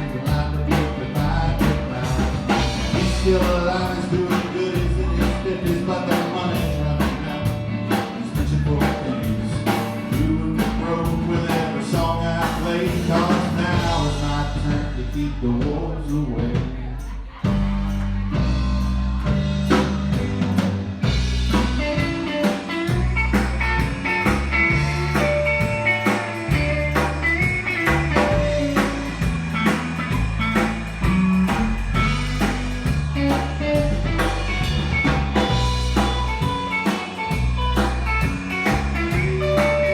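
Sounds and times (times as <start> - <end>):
blues-rock band playing: 0.0 - 39.9
drum kit beat: 0.0 - 39.9.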